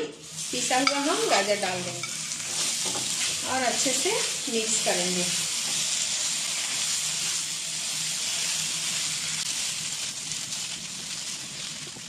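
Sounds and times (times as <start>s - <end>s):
food sizzling in a pan: 0.0s - 12.0s
spatula stirring in a pan: 0.3s - 12.0s.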